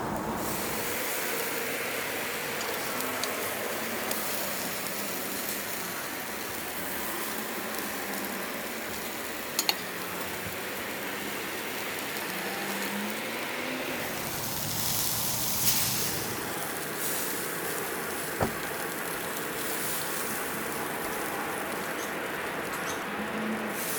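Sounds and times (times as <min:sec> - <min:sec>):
meat sizzling on a grill: 0:00.2 - 0:23.9.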